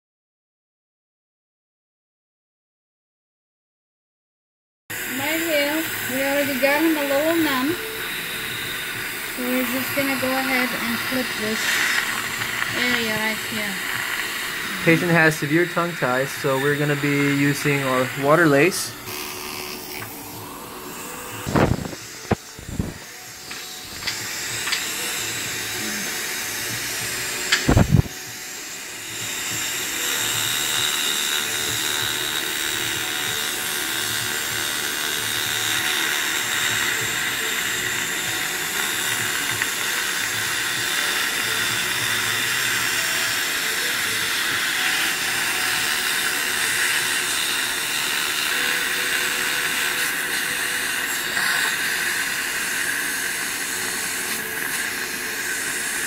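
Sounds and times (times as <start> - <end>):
dental suction hiss: 5.1 - 56.0.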